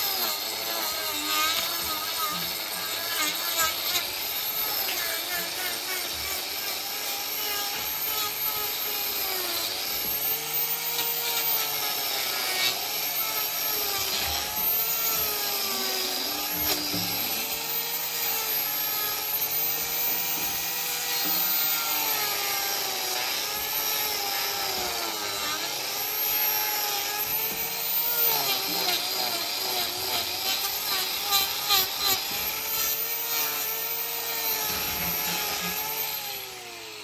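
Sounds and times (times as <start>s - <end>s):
power tool motor running: 0.0s - 37.0s.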